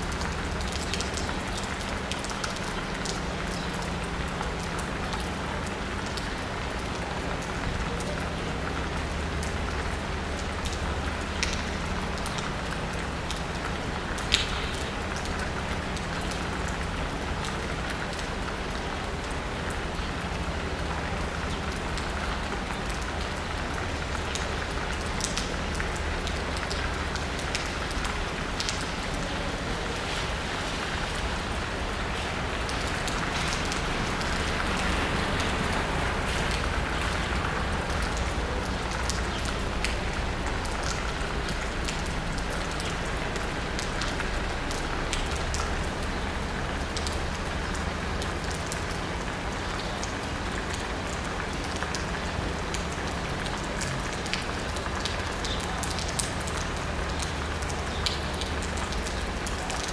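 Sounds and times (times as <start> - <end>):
rain pattering on asphalt and roofs: 0.0 - 59.9
raindrops ticking: 0.0 - 59.9.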